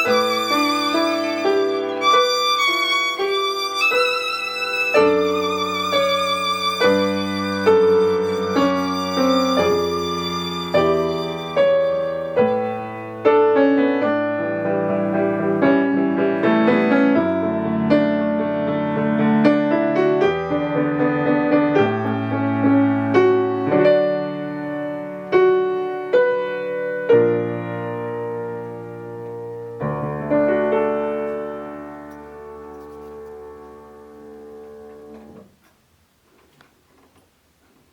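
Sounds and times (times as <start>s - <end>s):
solo piano melody: 0.0s - 35.6s.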